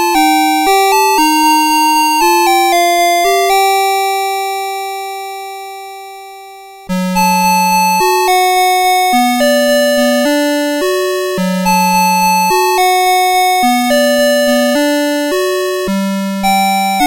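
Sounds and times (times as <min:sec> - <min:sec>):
alarm clock beeping melody: 0:00.0 - 0:05.8, 0:06.8 - 0:17.0.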